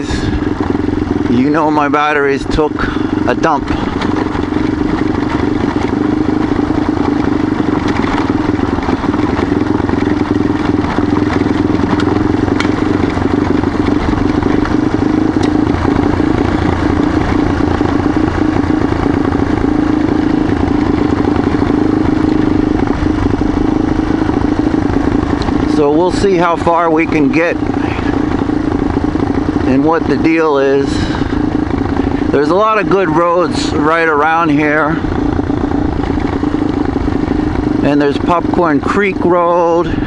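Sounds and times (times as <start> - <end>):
gravel crackling under tyres: 0.0 - 40.0
motorcycle engine running: 0.0 - 40.0.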